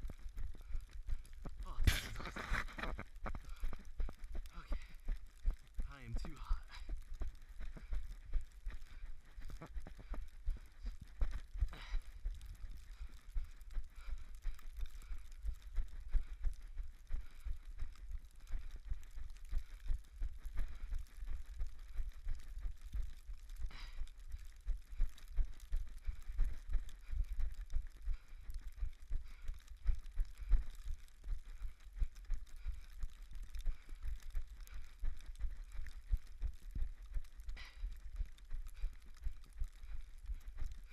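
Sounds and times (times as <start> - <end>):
running footsteps in snow: 0.0 - 40.9.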